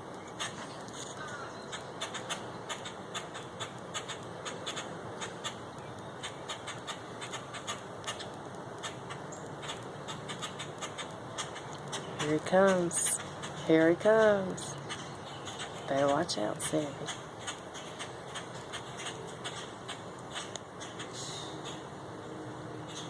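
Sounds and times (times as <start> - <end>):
starlings harsh alarm calls: 0.3 - 5.6, 6.2 - 21.9.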